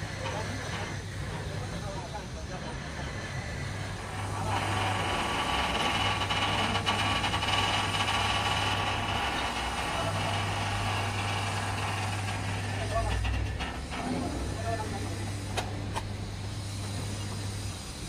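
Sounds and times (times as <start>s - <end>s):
crane winch motor humming: 0.0s - 18.0s.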